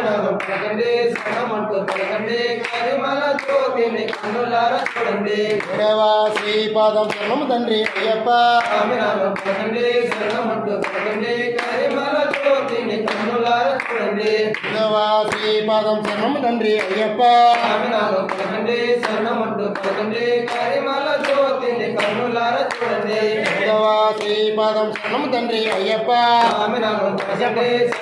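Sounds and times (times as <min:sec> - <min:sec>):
men singing devotional song: 0:00.0 - 0:28.0
rhythmic sharp claps: 0:00.0 - 0:28.0.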